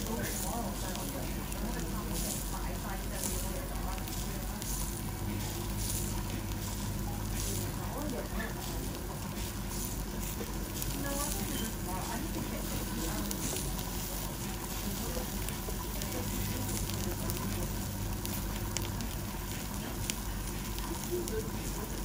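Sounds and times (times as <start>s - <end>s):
meat sizzling on grill: 0.0s - 22.0s
sharp crackles: 0.0s - 22.0s.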